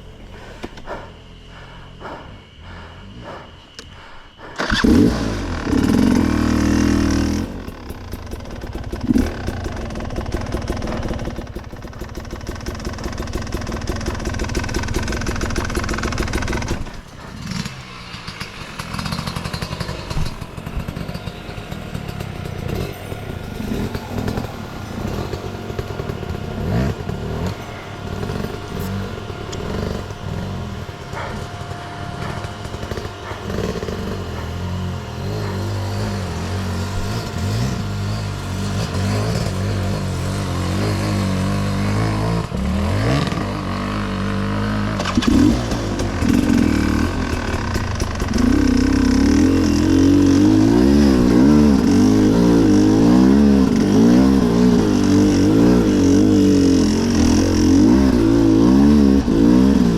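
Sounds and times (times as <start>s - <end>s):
motorcycle engine revving: 0.0s - 59.9s
clatter: 5.6s - 59.9s.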